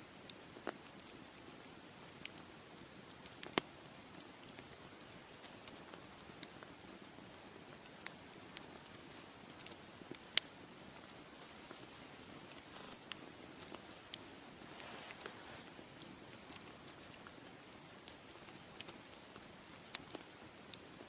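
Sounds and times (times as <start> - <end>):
bonfire crackling: 0.1 - 21.0.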